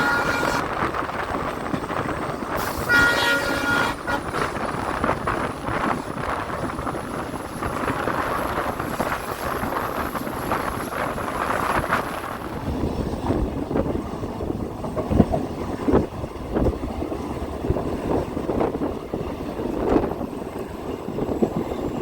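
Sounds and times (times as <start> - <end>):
passenger train rumbling on track: 0.0 - 22.0
wind buffeting microphone: 0.0 - 22.0.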